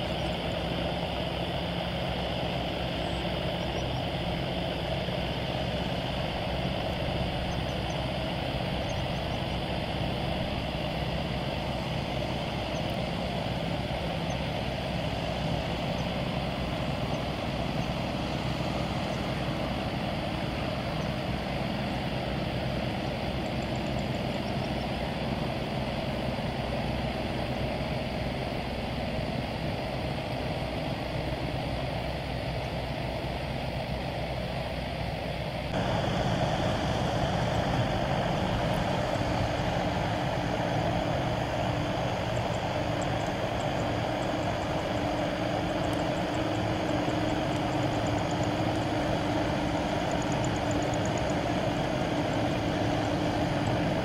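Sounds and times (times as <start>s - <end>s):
jet engines at taxi power: 0.0s - 54.0s.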